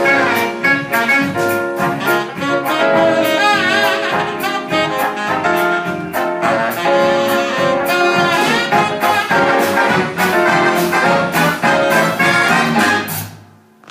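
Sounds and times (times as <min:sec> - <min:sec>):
drum kit steady beat: 0:00.0 - 0:13.9
jazz big band playing: 0:00.0 - 0:13.9.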